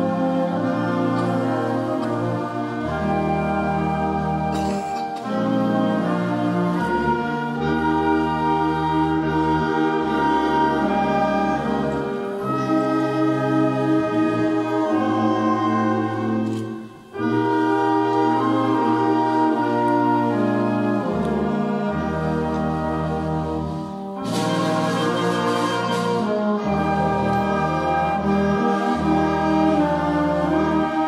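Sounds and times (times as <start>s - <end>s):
wind band playing: 0.0s - 31.0s.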